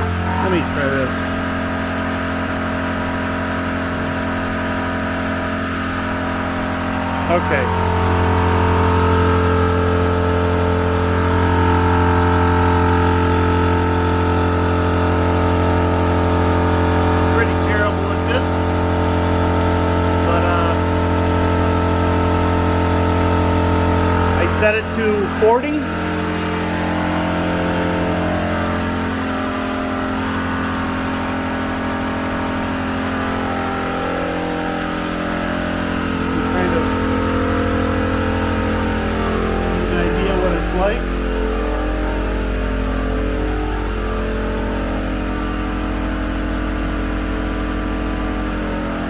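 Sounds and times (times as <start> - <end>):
air compressor motor hum: 0.0 - 49.0.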